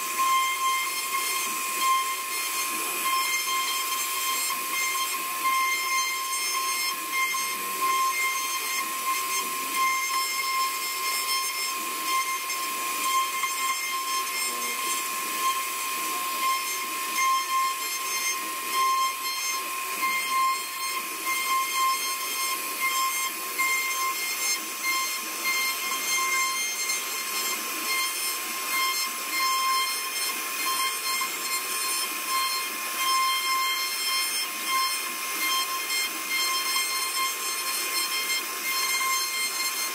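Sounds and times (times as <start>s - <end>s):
bit cutting wood hiss: 0.0s - 39.9s
router spindle whine: 0.0s - 39.9s.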